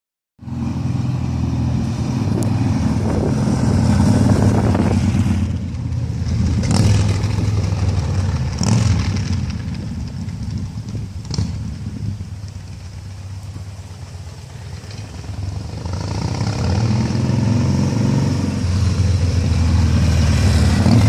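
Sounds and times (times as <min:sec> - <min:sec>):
vehicle engine running: 0:00.4 - 0:17.8.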